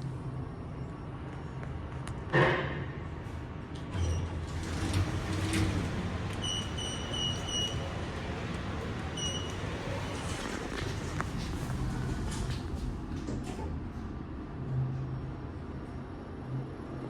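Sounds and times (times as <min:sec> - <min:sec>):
lift doors sliding rumble: 0:03.1 - 0:17.0.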